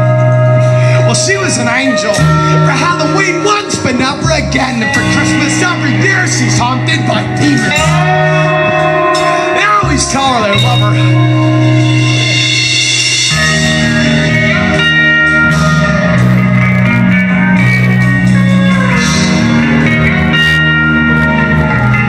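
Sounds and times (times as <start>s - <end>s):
rock guitar chords: 0.0s - 22.0s.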